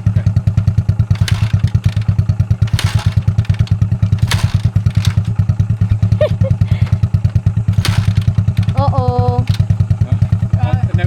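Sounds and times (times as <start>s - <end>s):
motorcycle engine running: 0.0s - 11.0s
sharp clattering knocks: 1.1s - 10.6s.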